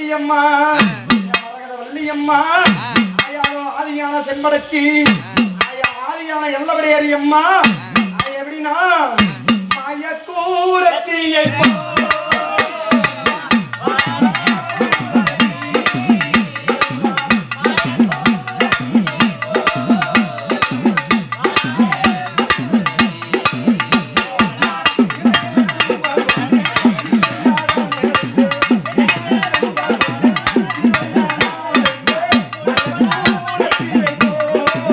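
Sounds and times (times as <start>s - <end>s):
drum-led festival music: 0.0s - 10.1s, 11.2s - 34.9s
rapid repeated drumming: 0.7s - 1.5s, 2.6s - 3.7s, 4.9s - 6.2s, 7.6s - 8.4s, 9.1s - 10.0s, 11.4s - 34.9s.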